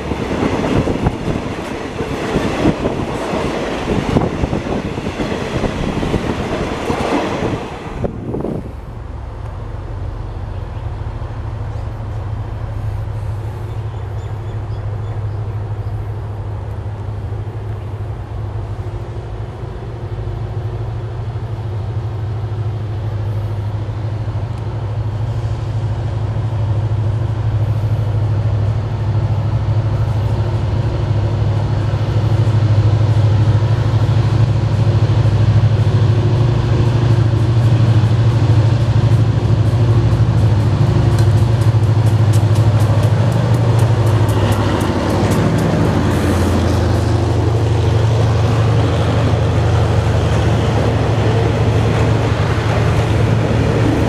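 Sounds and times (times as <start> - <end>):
locomotive engine droning: 0.0 - 54.0.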